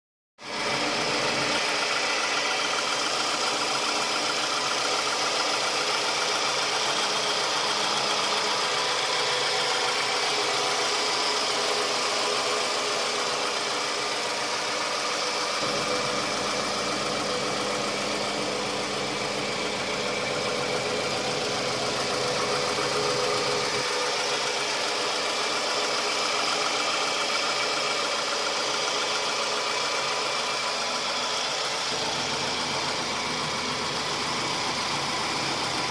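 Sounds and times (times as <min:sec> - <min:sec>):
car engine idling: 0:00.4 - 0:35.9
extraneous engine noise: 0:00.4 - 0:35.9.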